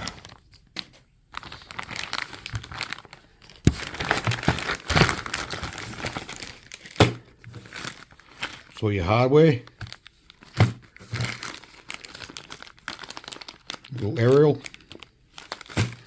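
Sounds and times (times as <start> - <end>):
plastic bag crinkling: 0.0 - 0.7, 1.3 - 16.0.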